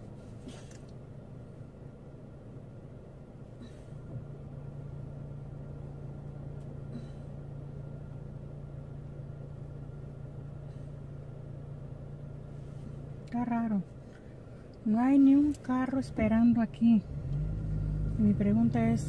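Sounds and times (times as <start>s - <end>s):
car engine hum inside cabin: 0.0s - 19.0s.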